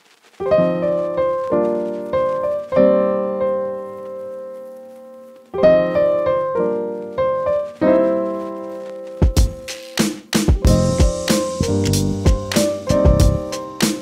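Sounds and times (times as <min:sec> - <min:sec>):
slow piano chords: 0:00.4 - 0:09.7, 0:10.6 - 0:14.0.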